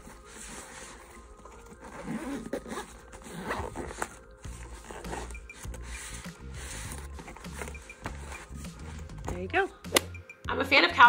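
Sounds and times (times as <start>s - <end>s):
zipper rasping: 0.0s - 9.4s
case being handled: 0.0s - 10.1s.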